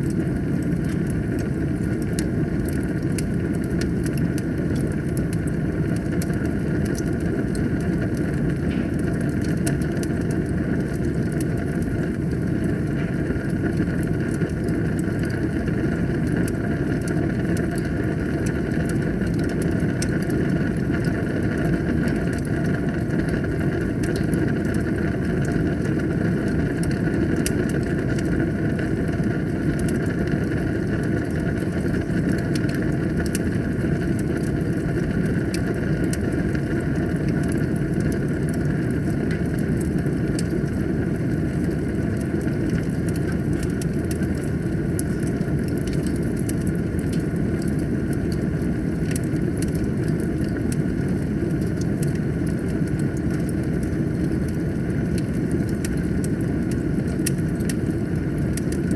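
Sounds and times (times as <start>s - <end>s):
wood fire roaring and crackling: 0.0s - 58.9s.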